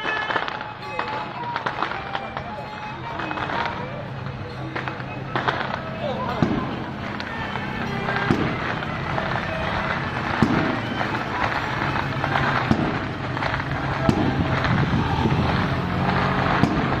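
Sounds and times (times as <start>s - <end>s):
firecrackers crackling: 0.0s - 17.0s
loud bangs: 0.0s - 17.0s.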